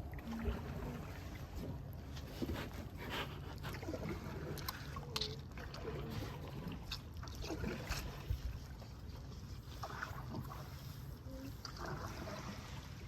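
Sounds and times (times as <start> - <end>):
paddles splashing in water: 0.0 - 13.0.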